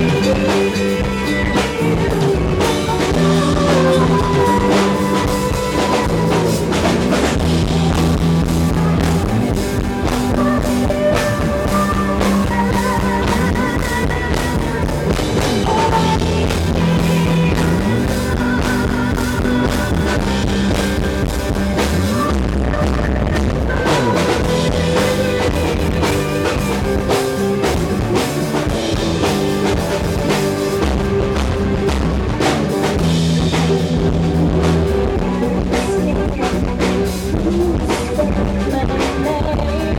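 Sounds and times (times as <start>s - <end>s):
bass guitar: 0.0s - 39.9s
drum kit steady beat: 0.0s - 39.9s
electric guitars: 0.0s - 39.9s.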